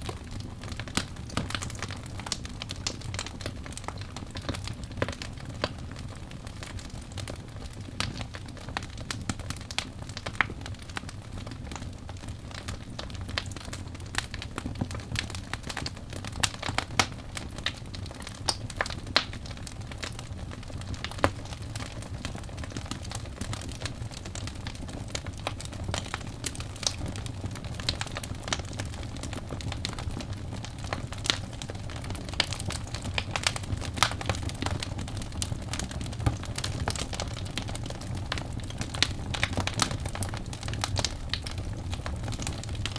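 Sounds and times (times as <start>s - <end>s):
logs crackling and popping: 0.0s - 42.9s.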